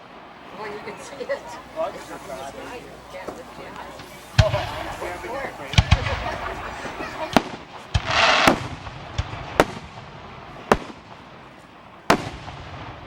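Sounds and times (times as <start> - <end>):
fireworks bangs: 0.0 - 13.0
hissing crackle: 0.0 - 13.0.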